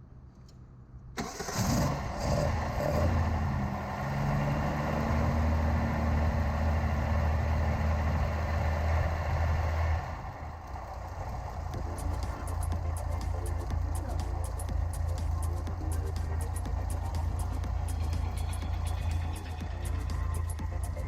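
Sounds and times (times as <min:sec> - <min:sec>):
car engine starting and idling: 0:00.0 - 0:21.0.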